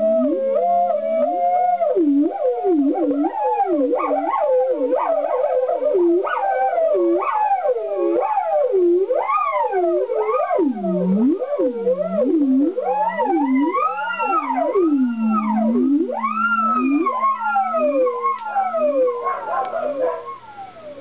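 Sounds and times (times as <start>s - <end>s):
theremin swooping pitch: 0.0s - 21.0s.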